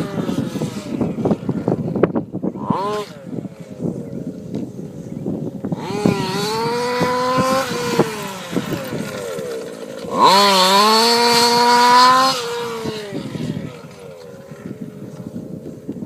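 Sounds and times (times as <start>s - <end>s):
engine running at high revs: 0.0s - 15.9s.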